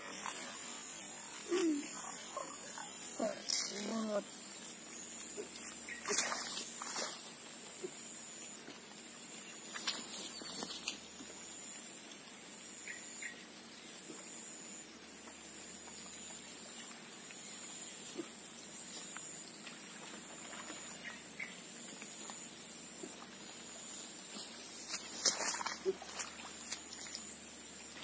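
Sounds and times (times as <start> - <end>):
high insect buzz: 0.0 - 28.0.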